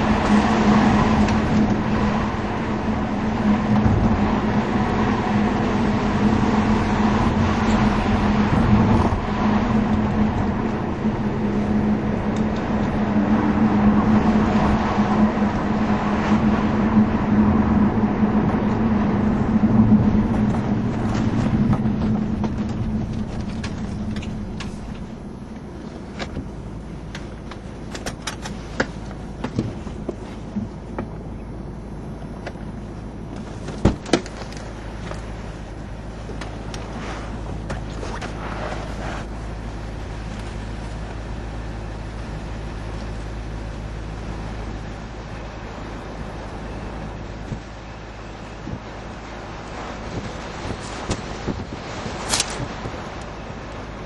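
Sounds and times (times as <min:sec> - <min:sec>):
car engine hum in cabin: 0:00.0 - 0:54.0
road noise: 0:00.0 - 0:54.0.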